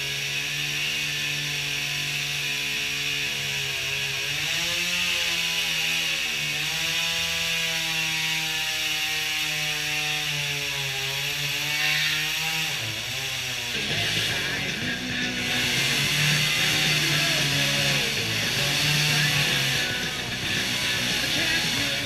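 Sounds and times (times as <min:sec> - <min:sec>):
power tool cutting wood: 0:00.0 - 0:22.0.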